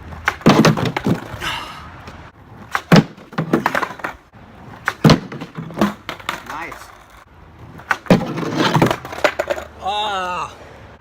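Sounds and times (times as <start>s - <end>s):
skateboard clacking on ground: 0.1s - 1.4s, 2.0s - 9.9s.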